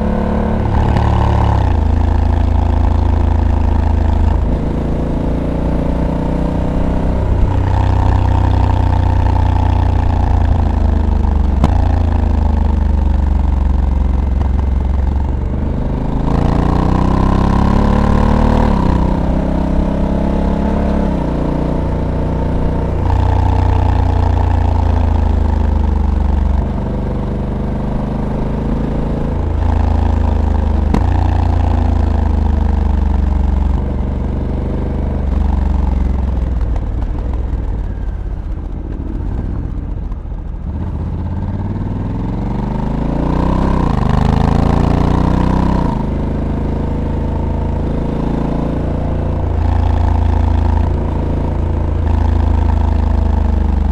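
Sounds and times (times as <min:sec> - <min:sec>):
motorcycle engine while riding: 0:00.0 - 0:53.9.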